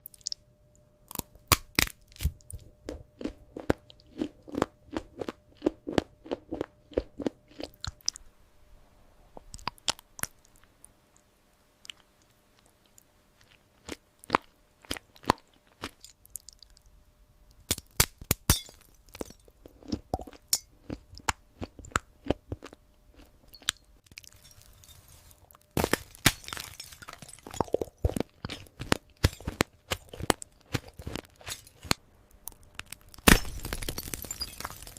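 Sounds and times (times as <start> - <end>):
crunching and chewing brittle food: 0.0 - 0.4, 1.0 - 8.3, 9.3 - 34.9.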